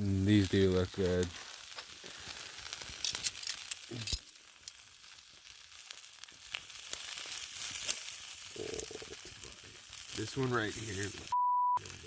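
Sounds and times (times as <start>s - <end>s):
meat sizzling on hot rock: 0.0s - 12.0s.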